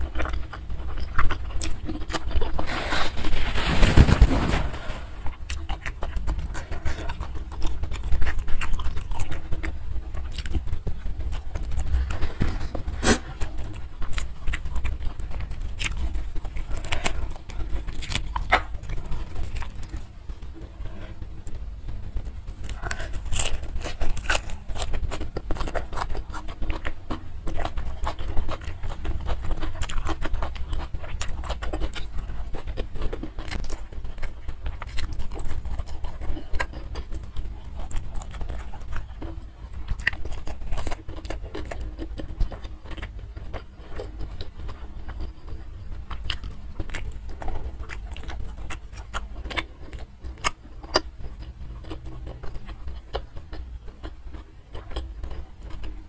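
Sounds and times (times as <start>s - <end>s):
chewing leafy greens: 0.0s - 56.0s
steady low hum: 0.0s - 56.0s.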